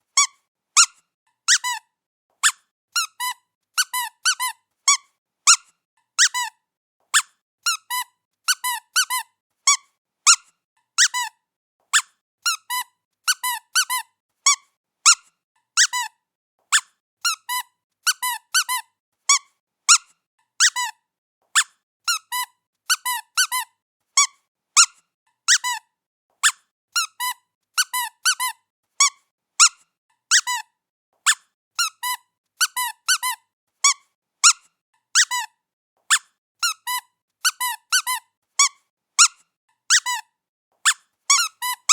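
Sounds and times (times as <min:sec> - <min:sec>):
rubber dog toy squeaking: 0:00.2 - 0:15.2, 0:15.8 - 0:41.9.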